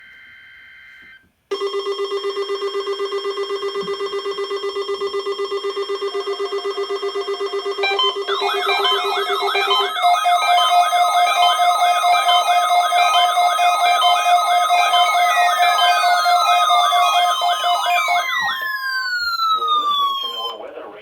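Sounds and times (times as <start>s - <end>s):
pulsing ringing alarm tone: 0.0s - 20.6s
warbling siren tone: 3.4s - 20.6s.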